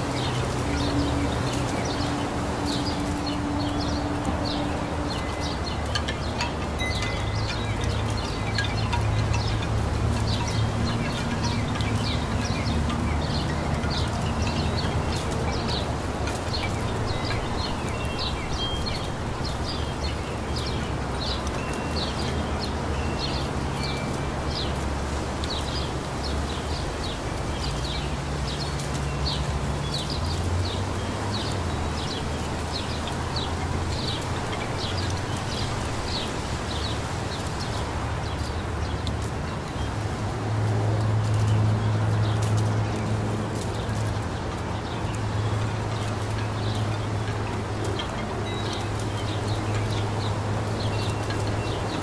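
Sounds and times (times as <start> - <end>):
breeze rustling leaves: 0.0 - 52.0
small songbirds chirping: 0.0 - 52.0.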